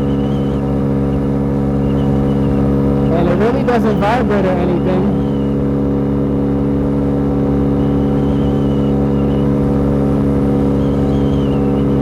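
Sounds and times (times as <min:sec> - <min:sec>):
low wind rumble: 0:00.0 - 0:12.0
scooter engine at high revs: 0:00.0 - 0:12.0.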